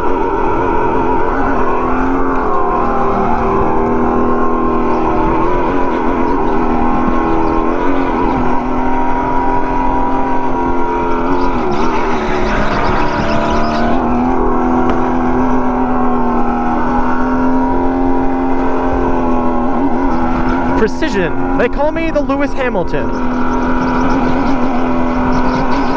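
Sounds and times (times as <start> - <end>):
go-kart engine whine: 0.0 - 21.6, 23.0 - 25.9.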